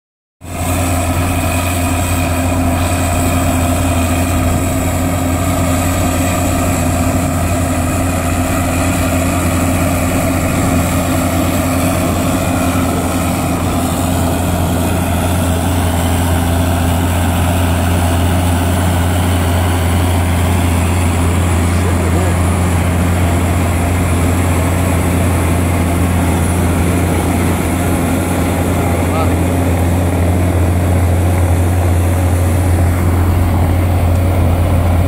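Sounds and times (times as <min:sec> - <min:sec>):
heavy diesel engine running: 0:00.4 - 0:35.0.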